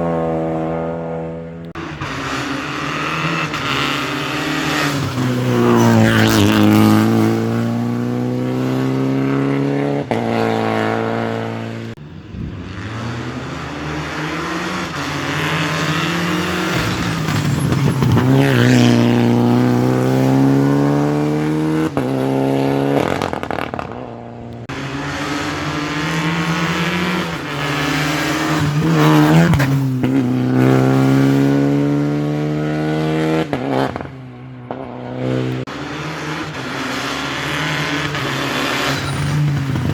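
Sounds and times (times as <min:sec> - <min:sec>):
rally cars driving past: 0:00.0 - 0:39.9.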